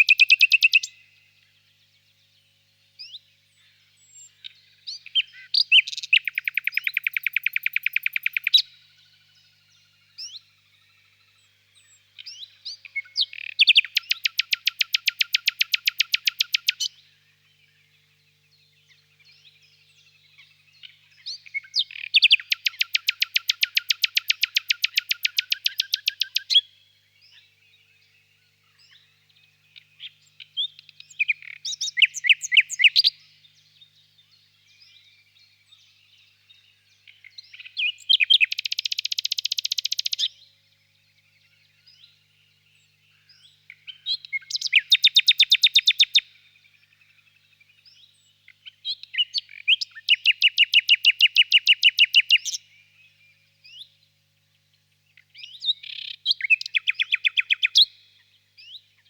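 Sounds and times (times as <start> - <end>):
faint bird chirping: 0.0 - 59.0
nightingale singing: 0.0 - 59.0.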